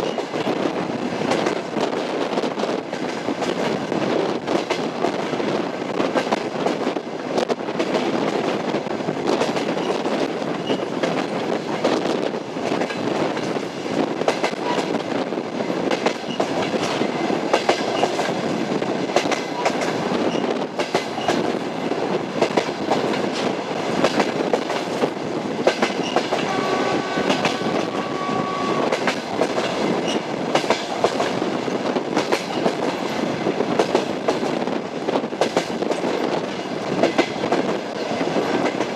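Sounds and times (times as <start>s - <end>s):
clickety-clack over rail joints: 0.0s - 38.9s
train wheels rumbling on rails: 0.0s - 38.9s.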